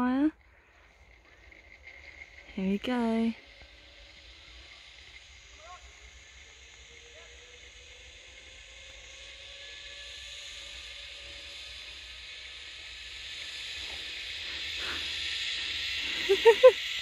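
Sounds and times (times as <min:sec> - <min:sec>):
zip-wire trolley hissing and whining: 0:00.0 - 0:17.0.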